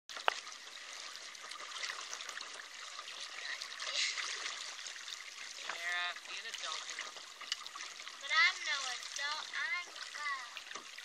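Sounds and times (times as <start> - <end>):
water rushing along a hull: 0.1 - 11.0.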